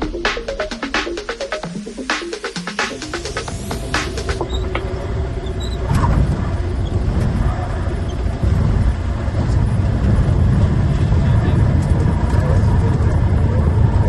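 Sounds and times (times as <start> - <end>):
vehicle engine rumble: 1.5 - 14.0.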